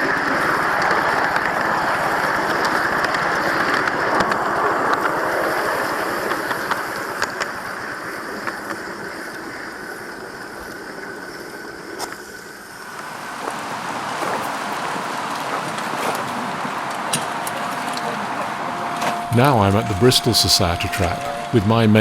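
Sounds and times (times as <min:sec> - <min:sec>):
miniature train running on track: 0:00.0 - 0:09.4, 0:12.8 - 0:22.0.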